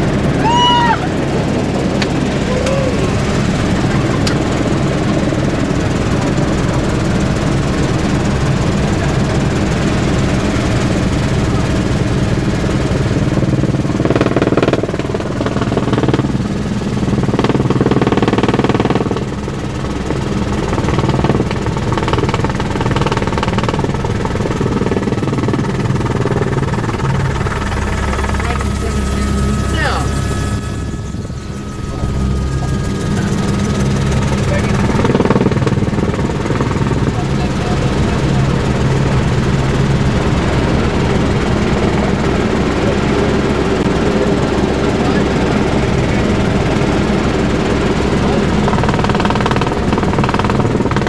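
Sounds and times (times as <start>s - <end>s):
helicopter rotor and engine drone: 0.0s - 51.0s.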